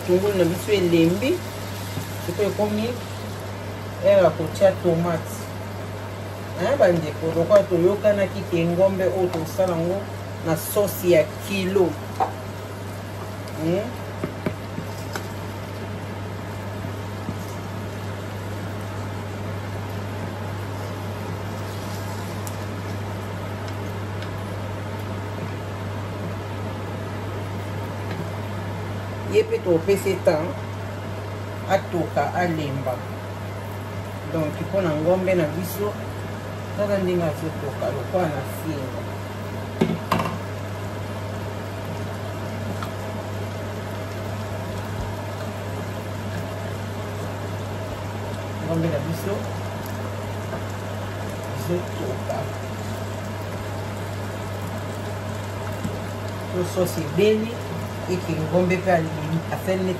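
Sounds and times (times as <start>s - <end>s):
kitchen appliance humming: 0.0s - 59.9s.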